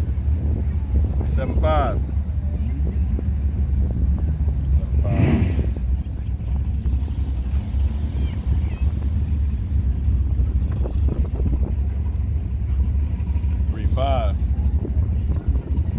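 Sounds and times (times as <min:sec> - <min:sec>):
motor vehicle running: 0:00.0 - 0:15.9
road or wind noise: 0:00.0 - 0:15.9.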